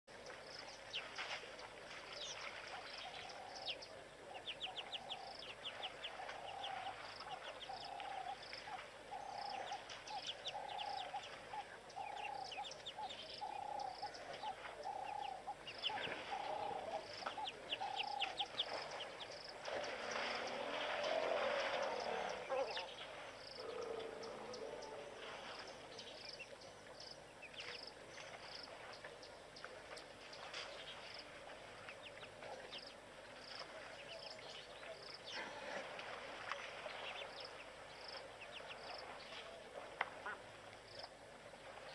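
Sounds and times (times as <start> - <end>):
birds calling: 2.1 - 41.1.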